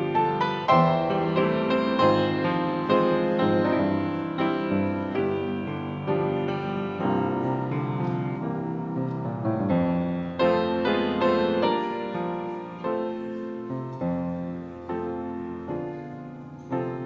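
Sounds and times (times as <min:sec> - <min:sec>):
grand piano chords: 0:00.0 - 0:17.0.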